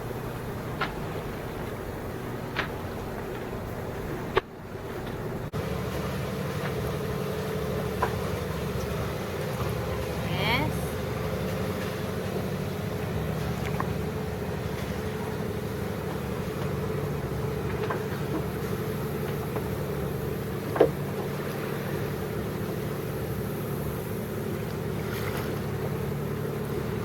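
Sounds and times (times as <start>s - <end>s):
boat engine humming: 0.0s - 27.0s.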